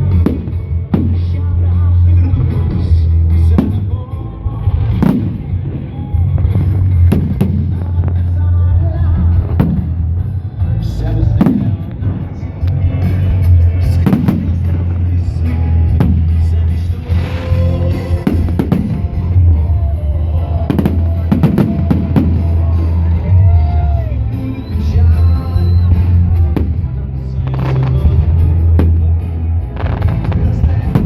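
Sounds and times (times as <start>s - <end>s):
fireworks bursting: 0.0s - 2.8s, 3.4s - 4.0s, 4.6s - 10.2s, 11.3s - 23.2s, 24.5s - 31.0s
loud music with heavy bass: 0.0s - 31.0s.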